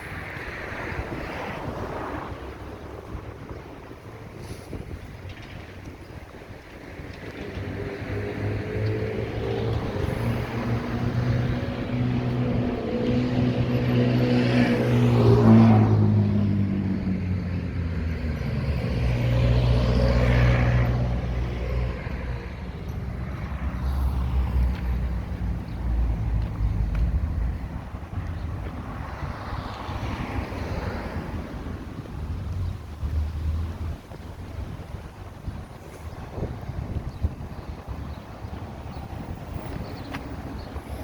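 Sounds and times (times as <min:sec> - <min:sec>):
low traffic rumble: 0:00.0 - 0:41.0
vehicle passing with tyre rush: 0:00.0 - 0:41.0.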